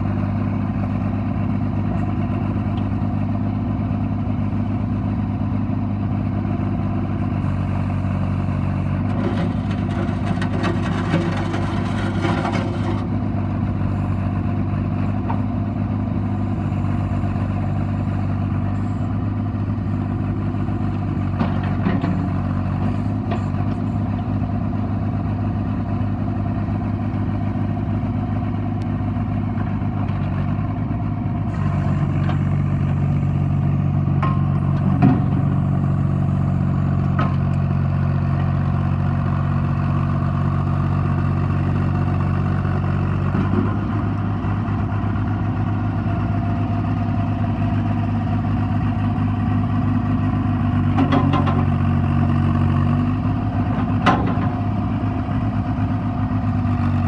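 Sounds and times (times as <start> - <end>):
backhoe engine running: 0.0 - 57.0.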